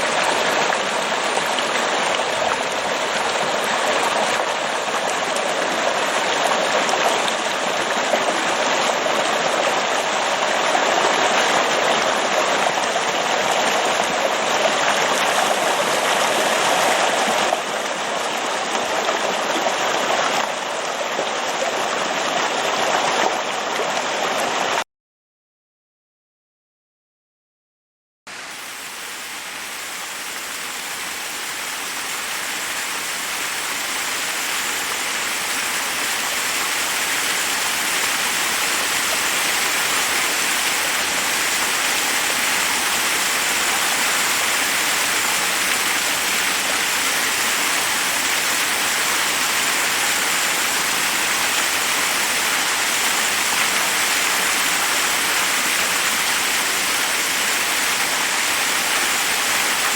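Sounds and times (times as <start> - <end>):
water rushing over rocks: 0.0 - 24.8, 28.3 - 59.9.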